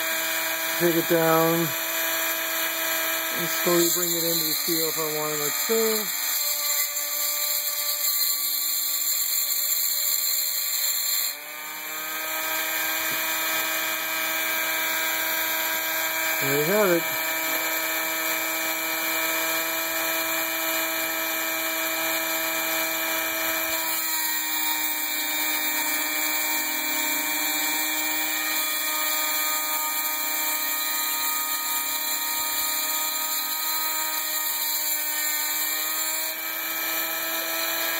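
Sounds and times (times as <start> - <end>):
rotary tool high whine: 0.0 - 37.9.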